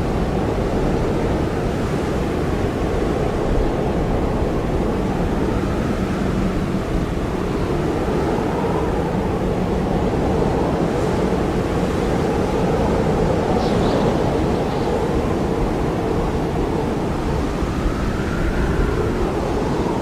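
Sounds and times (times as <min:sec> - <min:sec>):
blizzard wind roaring: 0:00.0 - 0:20.0.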